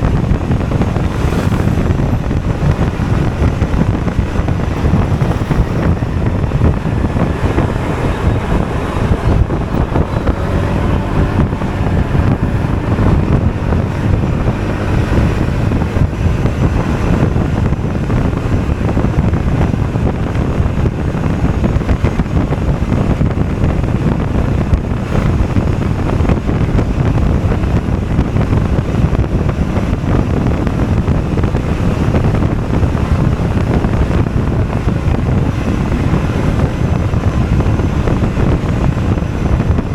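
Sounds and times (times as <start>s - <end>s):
scooter engine running: 0.0s - 39.9s
wind buffeting microphone: 0.0s - 39.9s.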